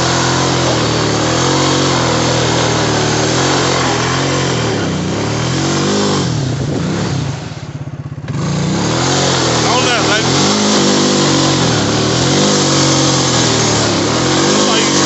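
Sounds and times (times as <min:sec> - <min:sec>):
quad bike engine revving: 0:00.0 - 0:15.0.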